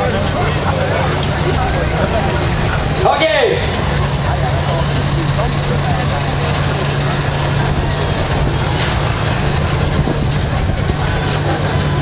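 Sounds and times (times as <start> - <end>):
combine harvester engines droning: 0.0 - 12.0.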